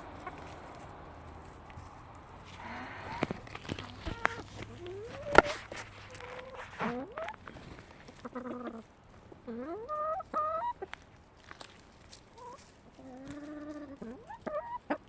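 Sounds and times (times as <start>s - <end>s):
hens clucking and calling: 0.0s - 15.0s.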